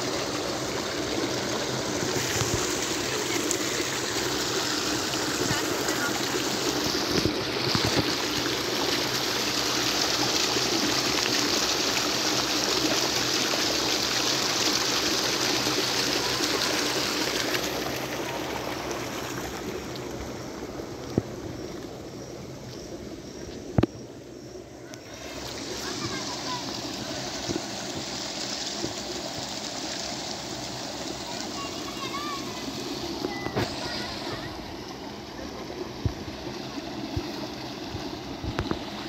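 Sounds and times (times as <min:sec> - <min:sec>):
water rushing from sluice: 0:00.0 - 0:22.6, 0:24.7 - 0:39.0.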